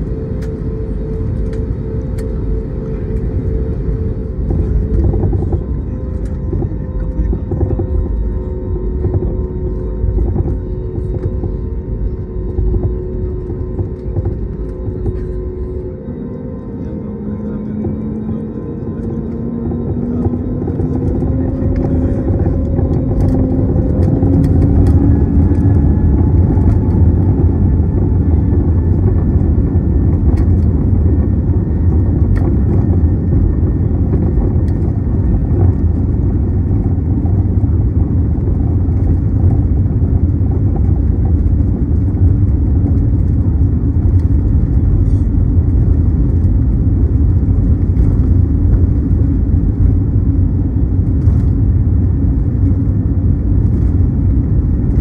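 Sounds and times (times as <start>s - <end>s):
engine rumble at high thrust: 0.0s - 55.0s.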